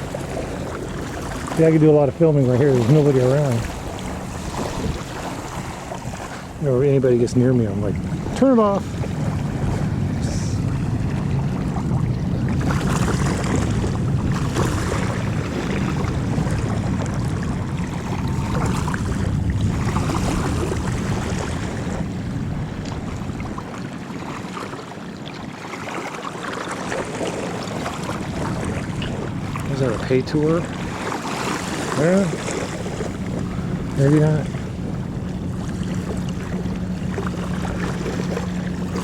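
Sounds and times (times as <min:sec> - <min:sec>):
boat motor hum: 0:00.0 - 0:39.0
wind and water rushing: 0:00.0 - 0:39.0.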